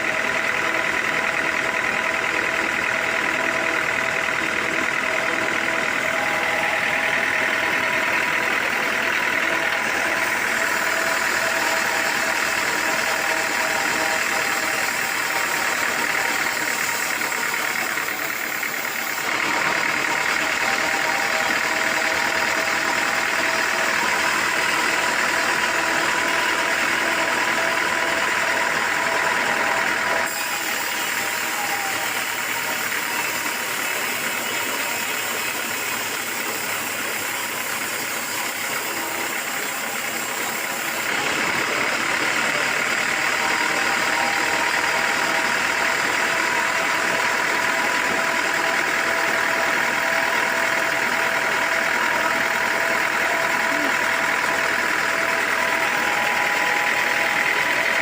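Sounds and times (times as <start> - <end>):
sawmill machinery whining: 0.0 - 58.0.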